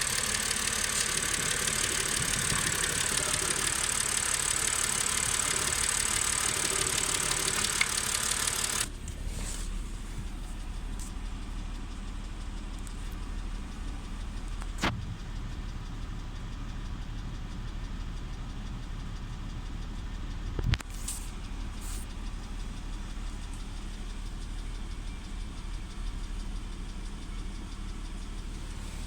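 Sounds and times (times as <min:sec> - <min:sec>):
car engine idling roughly: 0:00.0 - 0:29.0.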